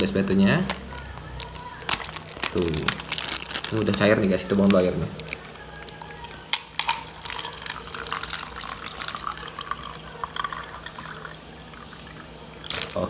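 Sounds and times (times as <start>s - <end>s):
plastic bag crinkling: 0.0s - 11.2s, 12.6s - 13.0s.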